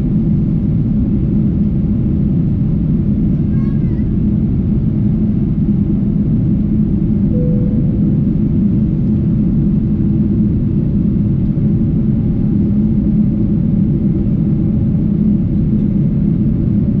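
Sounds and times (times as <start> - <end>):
airplane cabin drone: 0.0 - 17.0.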